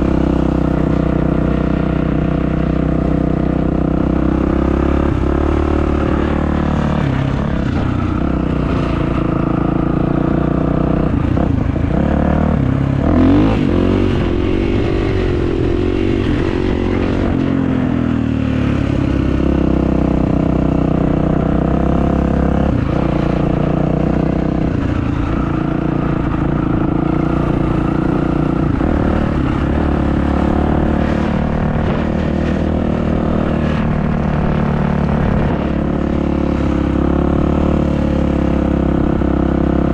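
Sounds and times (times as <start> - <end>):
motocross bike engine revving: 2.5 - 39.9.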